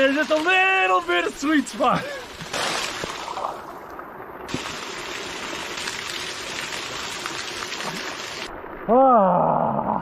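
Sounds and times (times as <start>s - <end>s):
water running and trickling: 0.0s - 8.6s
rush of water: 0.0s - 10.0s.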